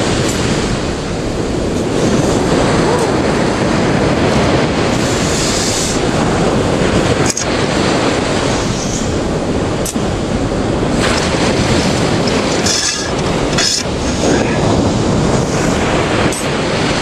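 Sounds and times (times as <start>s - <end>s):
sea waves breaking on shore: 0.0s - 17.0s
wind buffeting microphone: 0.0s - 17.0s.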